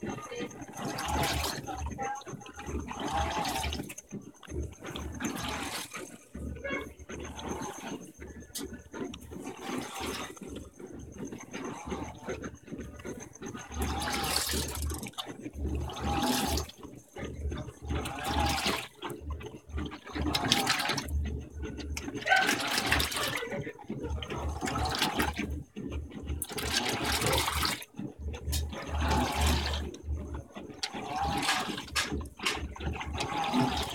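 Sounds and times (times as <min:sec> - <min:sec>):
washer motor hum: 0:00.0 - 0:33.9
water and clothes sloshing: 0:00.0 - 0:33.9.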